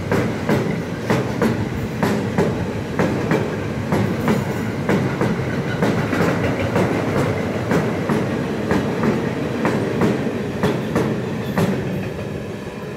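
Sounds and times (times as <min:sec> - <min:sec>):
wheels clacking over rail joints: 0:00.0 - 0:12.5
steel wheels rumbling on rail: 0:00.0 - 0:12.9.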